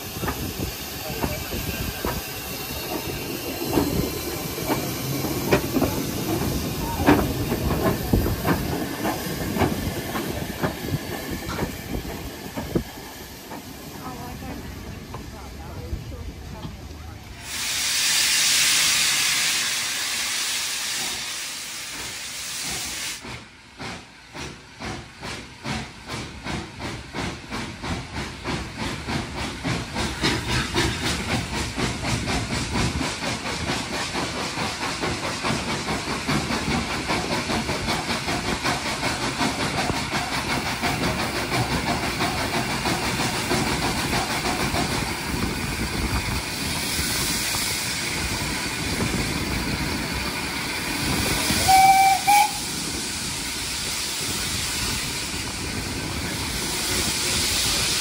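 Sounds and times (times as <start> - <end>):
steam locomotive exhaust chuffs: 0.0 - 14.5, 17.4 - 58.0
steam hissing: 0.0 - 16.2, 17.2 - 58.0.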